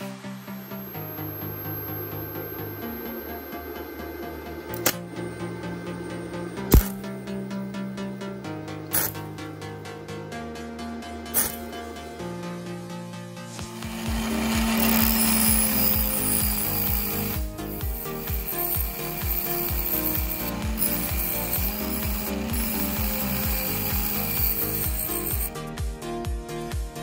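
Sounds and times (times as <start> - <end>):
angle grinder grinding metal rod: 0.0 - 12.6, 13.5 - 25.6
electronic dance music: 0.0 - 27.0.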